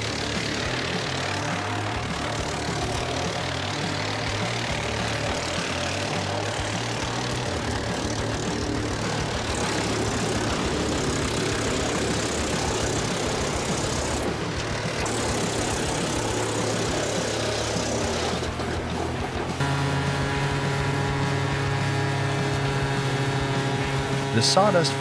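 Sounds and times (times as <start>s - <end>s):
wood chipper engine hum: 0.0s - 25.0s
wood chipper noisy rush: 0.0s - 25.0s.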